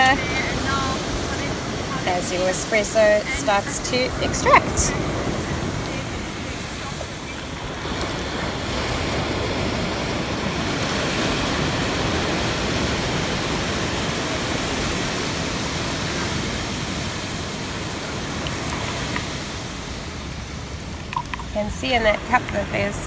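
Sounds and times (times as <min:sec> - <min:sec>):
ocean surf: 0:00.0 - 0:23.0
wind: 0:00.0 - 0:23.0.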